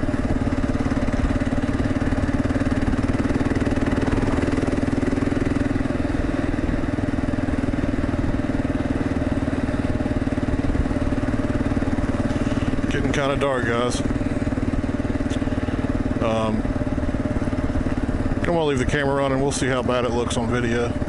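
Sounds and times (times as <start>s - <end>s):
motorcycle engine cruising: 0.0s - 21.0s
road noise: 0.0s - 21.0s.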